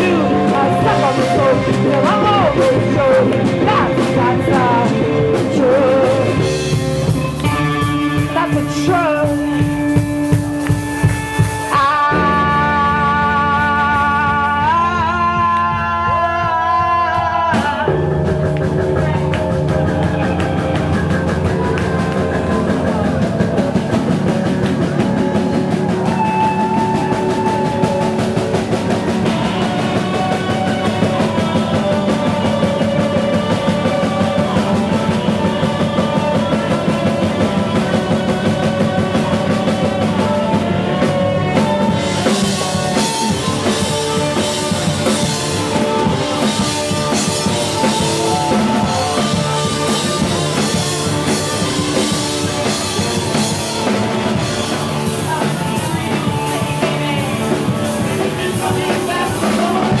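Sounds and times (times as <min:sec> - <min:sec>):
drum kit beat: 0:00.0 - 1:00.0
rock band playing instrumental: 0:00.0 - 1:00.0.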